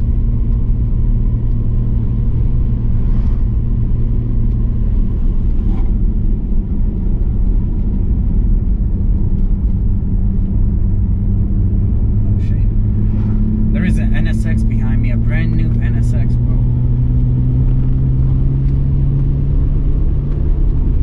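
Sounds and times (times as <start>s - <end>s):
car engine cruising: 0.0s - 21.0s
tyre and road noise: 0.0s - 21.0s.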